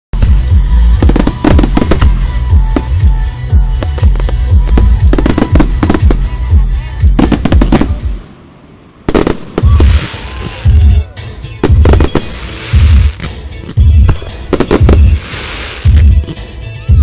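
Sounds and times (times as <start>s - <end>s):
fireworks booming: 0.2s - 8.4s, 9.1s - 11.0s, 11.6s - 16.6s
fireworks crackling hiss: 0.2s - 16.8s.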